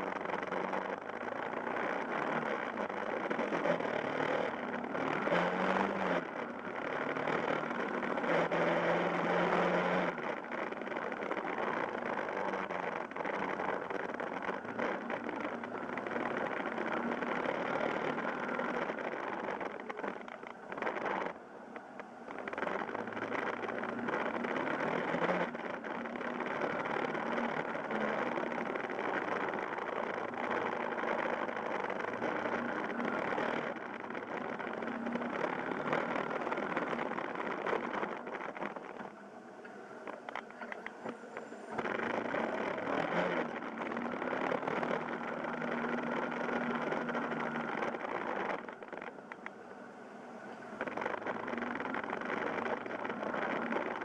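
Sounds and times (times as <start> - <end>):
motorcycle engine running: 0.0 - 49.7, 50.6 - 54.0.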